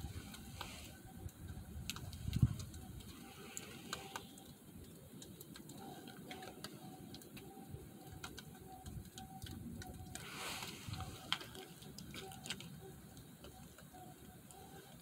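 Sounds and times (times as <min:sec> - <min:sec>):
faint clicks: 0:00.1 - 0:15.0.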